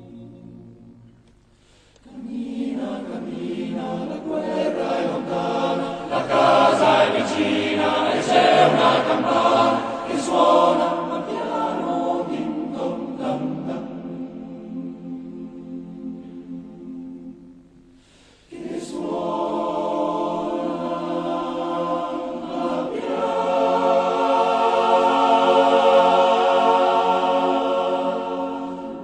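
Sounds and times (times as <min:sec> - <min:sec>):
choir singing slow harmonies: 0:00.0 - 0:29.0.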